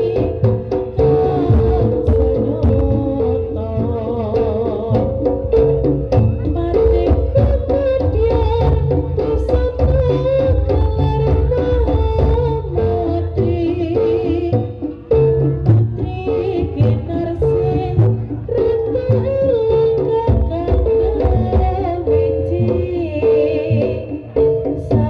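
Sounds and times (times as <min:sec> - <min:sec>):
hand drums beating: 0:00.0 - 0:25.0
held melody line: 0:00.0 - 0:25.0.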